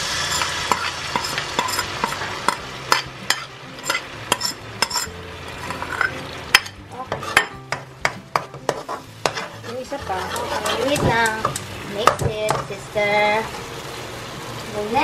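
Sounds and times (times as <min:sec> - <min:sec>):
sauce sizzling in frying pan: 0:00.0 - 0:15.0.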